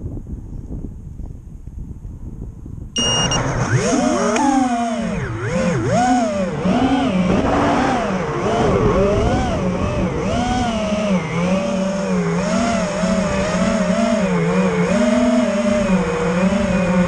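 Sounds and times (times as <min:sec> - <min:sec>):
drone motors whining: 0:03.0 - 0:17.0.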